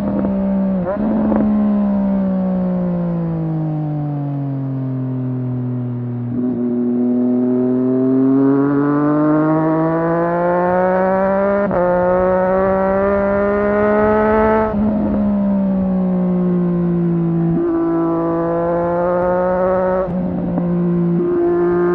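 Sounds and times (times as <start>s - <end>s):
motorcycle engine revving with upshifts: 0.0s - 3.9s, 5.0s - 21.9s.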